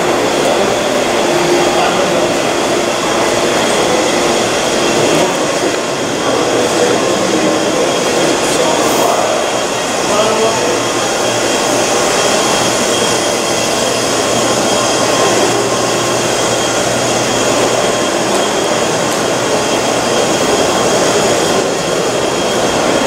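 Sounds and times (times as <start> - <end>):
subway train running: 0.0 - 23.0.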